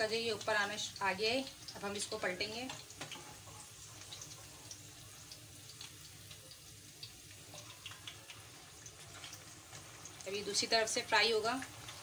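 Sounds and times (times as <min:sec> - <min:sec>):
oil sizzling in a pan: 0:00.0 - 0:12.0
small crackles: 0:00.4 - 0:10.7, 0:11.4 - 0:12.0.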